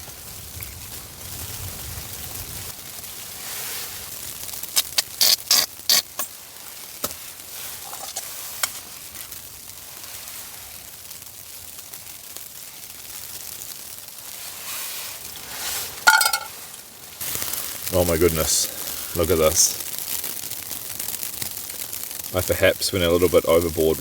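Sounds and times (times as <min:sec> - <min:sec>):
patties sizzling in a frying pan: 0:00.0 - 0:24.0.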